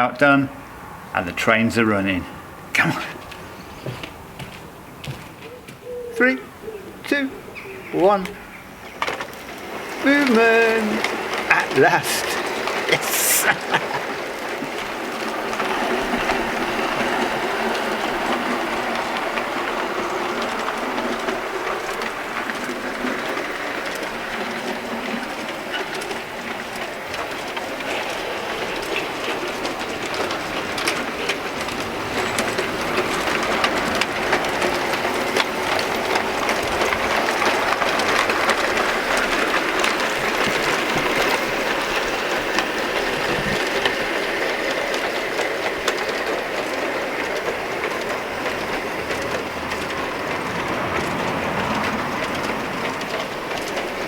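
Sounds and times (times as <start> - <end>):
wheels clicking on rails: 0.0 - 54.0
model train motor whirring: 8.9 - 54.0.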